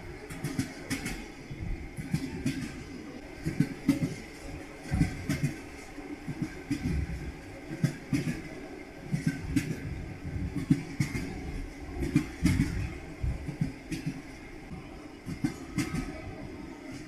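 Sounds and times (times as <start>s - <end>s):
train rolling rumble: 0.0s - 17.0s
train wheels clacking over rails: 0.0s - 17.0s.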